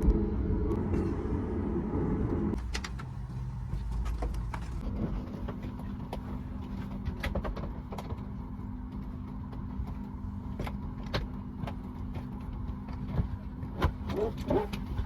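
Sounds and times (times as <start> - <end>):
steady low hum: 0.0 - 15.0
vehicle interior rumble: 0.0 - 15.0.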